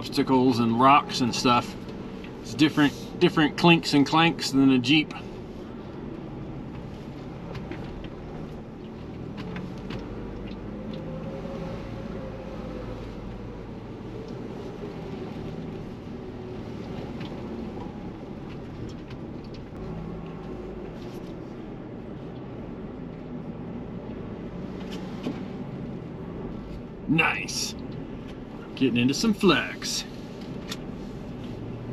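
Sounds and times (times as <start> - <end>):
engine low rumble: 0.0 - 31.9.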